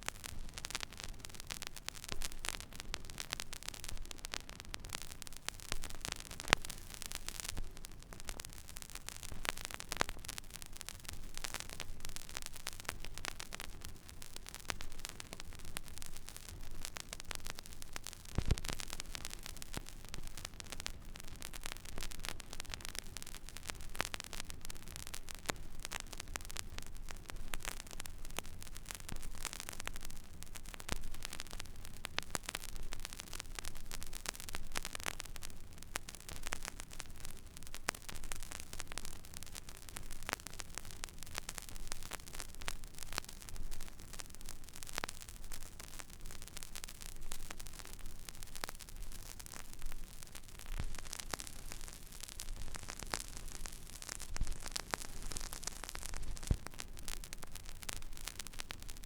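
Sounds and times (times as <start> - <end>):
vinyl crackles and pops: 0.0 - 59.0
vinyl surface hiss: 0.0 - 59.0.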